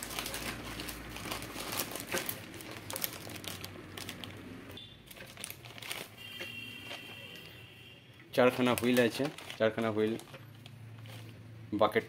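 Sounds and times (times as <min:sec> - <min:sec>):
plastic bag crinkling: 0:00.0 - 0:07.2, 0:08.4 - 0:11.5.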